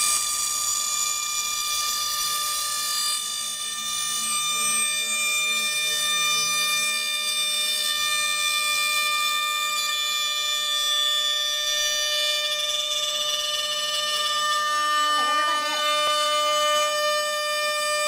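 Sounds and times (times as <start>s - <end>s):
router spindle high-pitched whine: 0.0s - 18.0s.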